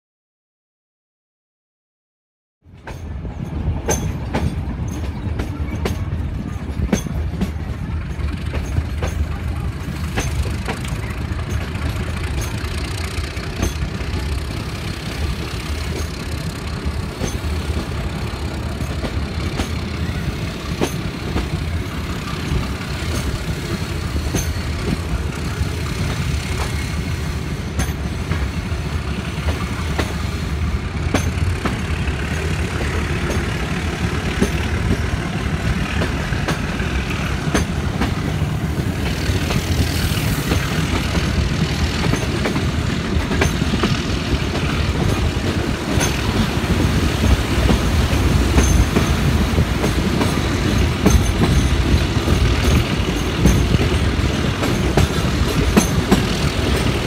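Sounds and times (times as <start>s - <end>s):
train wheels rumbling on rails: 2.6s - 57.0s.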